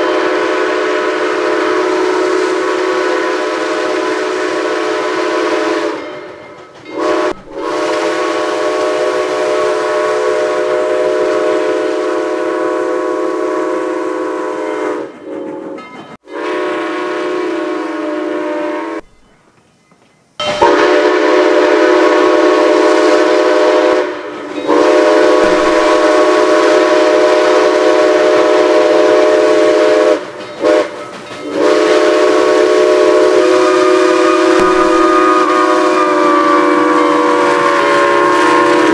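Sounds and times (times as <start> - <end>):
steam locomotive whistle: 0.0 - 19.2, 20.4 - 38.9.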